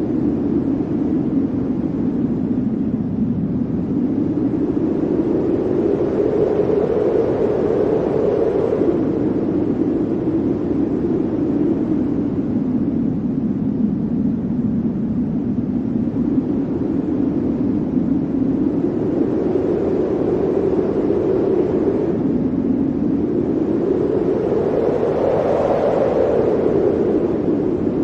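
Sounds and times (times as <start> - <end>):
blizzard wind blowing: 0.0 - 28.0.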